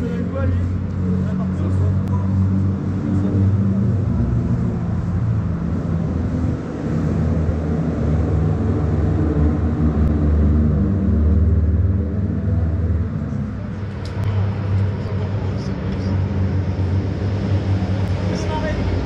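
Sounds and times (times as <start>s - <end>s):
racing car engines droning: 0.0s - 19.0s.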